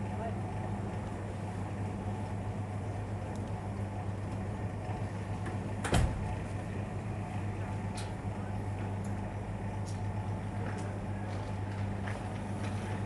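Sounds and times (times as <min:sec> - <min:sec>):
low terminal background hum: 0:00.0 - 0:13.0.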